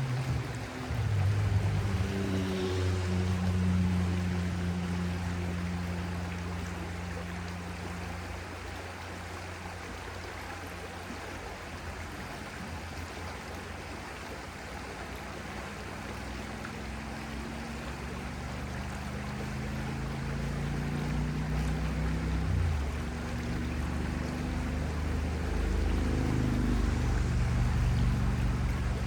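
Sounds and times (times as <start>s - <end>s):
low engine drone: 0.0s - 29.0s
stream rushing: 0.0s - 29.0s.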